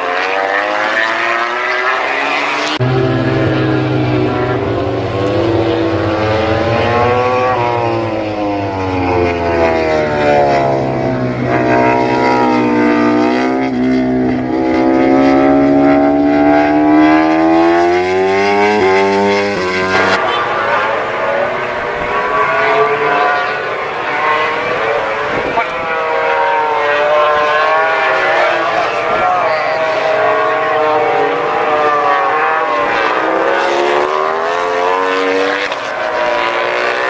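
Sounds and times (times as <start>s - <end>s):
racing motorcycle engines revving: 0.0s - 37.0s.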